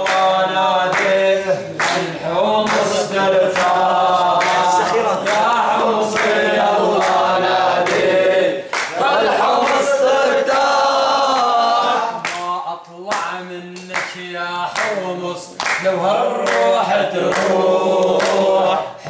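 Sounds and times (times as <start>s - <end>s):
hand claps: 0.0s - 18.6s
men singing in unison: 0.0s - 19.0s.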